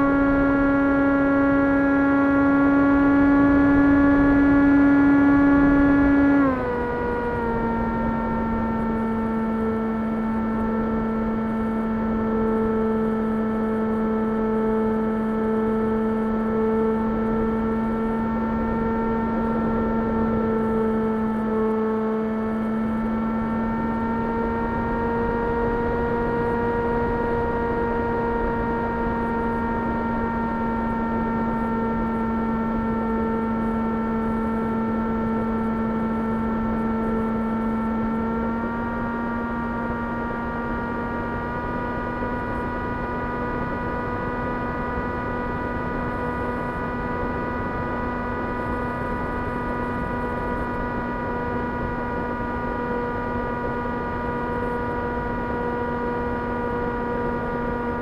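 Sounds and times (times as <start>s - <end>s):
electric motor and propeller hum: 0.0s - 58.0s.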